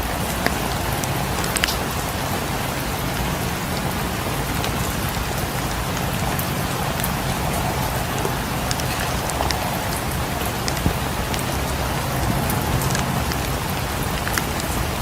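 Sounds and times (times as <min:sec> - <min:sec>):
rain falling on a cabin: 0:00.0 - 0:15.0
wood fire crackling: 0:00.0 - 0:15.0.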